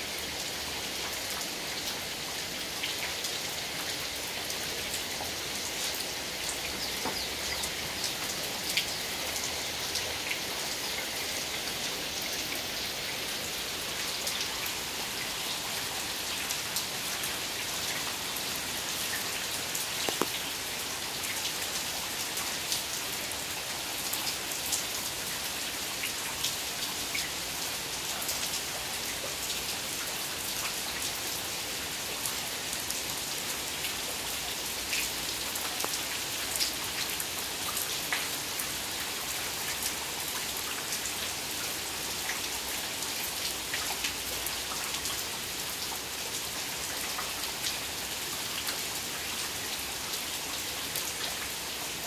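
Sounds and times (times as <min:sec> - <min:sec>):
heavy rain splashing into water: 0:00.0 - 0:52.0.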